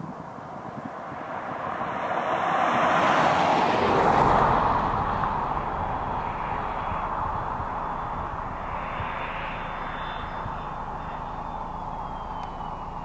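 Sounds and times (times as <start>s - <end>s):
jet engine rushing: 0.8s - 13.0s.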